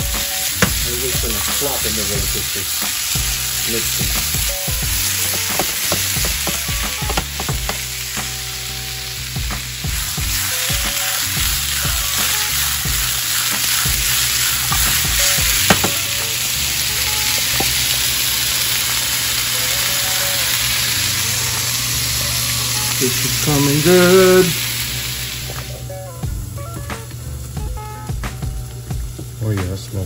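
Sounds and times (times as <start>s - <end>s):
vegetables sizzling in frying pan: 0.0s - 30.0s.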